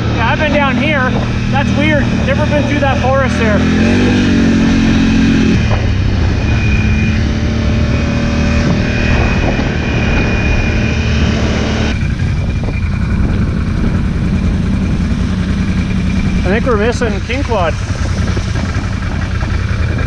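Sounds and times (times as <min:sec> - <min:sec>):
quad bike engine running: 0:00.0 - 0:20.0
wind rushing over microphone: 0:00.0 - 0:20.0.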